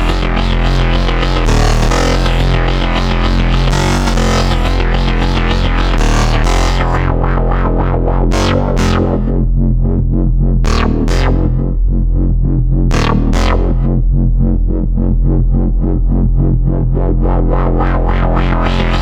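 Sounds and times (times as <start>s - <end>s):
synthesizer bass with rhythmic pulses: 0.0s - 19.0s.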